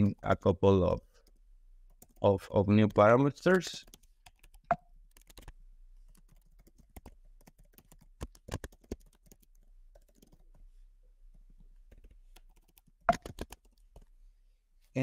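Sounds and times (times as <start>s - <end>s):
keyboard typing: 1.2s - 10.6s, 11.6s - 14.2s.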